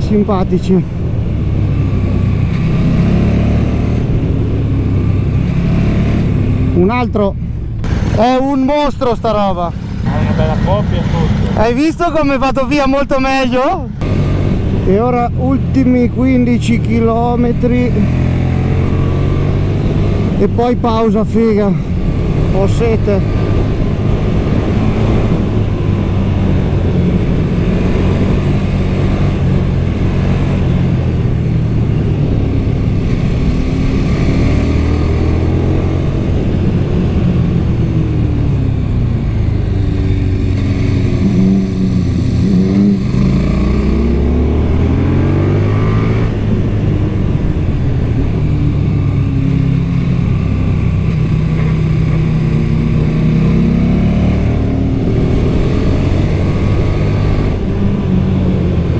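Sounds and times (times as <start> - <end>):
motorcycle engine while riding: 0.0 - 8.5, 14.0 - 58.9.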